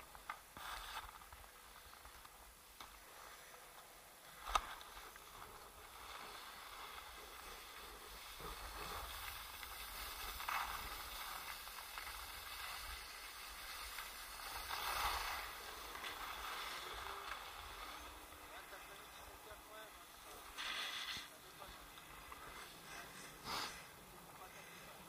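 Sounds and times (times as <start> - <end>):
skis hissing over snow: 0.5 - 2.2, 4.8 - 25.0.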